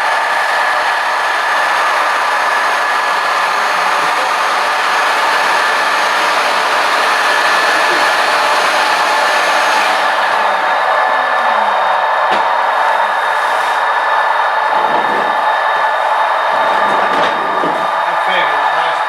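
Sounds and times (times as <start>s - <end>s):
mechanical whir with whine: 0.0s - 19.0s.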